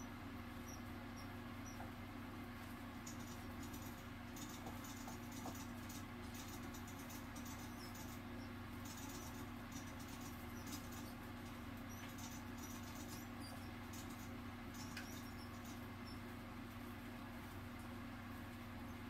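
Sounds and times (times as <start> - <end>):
rodent squeaking: 0.0 - 2.1, 2.9 - 16.8
steady low hum: 0.0 - 19.0.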